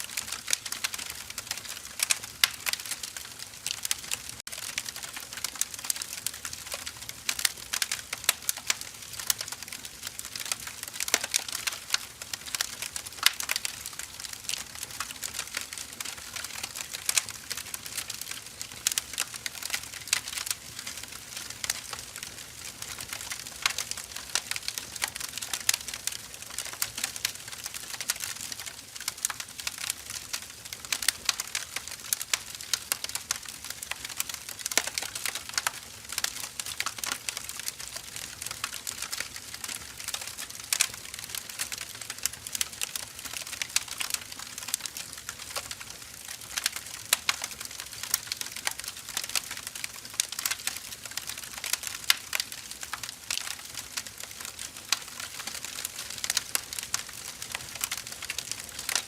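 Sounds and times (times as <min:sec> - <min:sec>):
firewood crackling and popping: 0:00.0 - 0:59.0.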